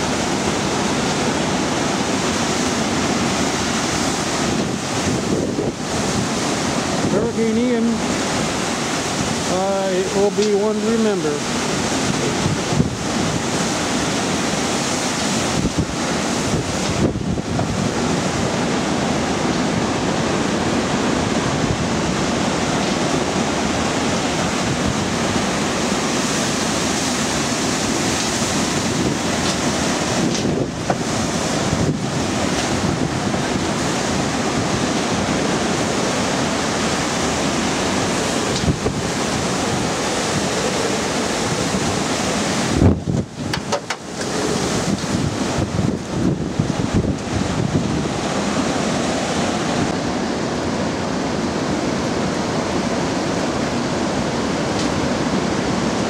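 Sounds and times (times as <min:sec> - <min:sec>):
strong wind through trees: 0:00.0 - 0:56.0
wind buffeting microphone: 0:00.0 - 0:56.0.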